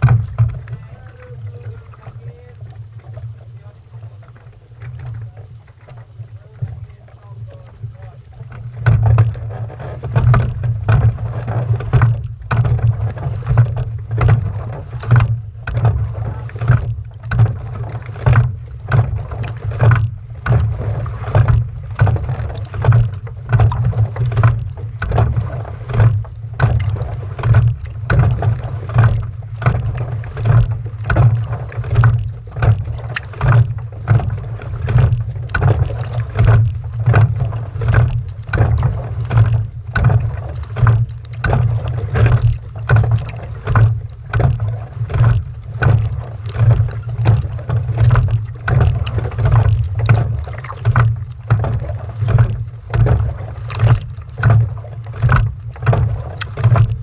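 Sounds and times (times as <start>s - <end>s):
rhythmic strokes: 0.0s - 56.8s
steady low rumble: 0.0s - 57.0s.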